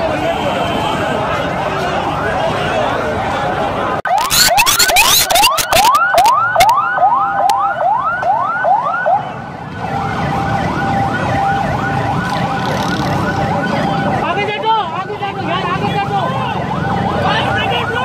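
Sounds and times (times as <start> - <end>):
crowd commotion: 0.0 - 18.0
ambulance siren: 0.4 - 18.0.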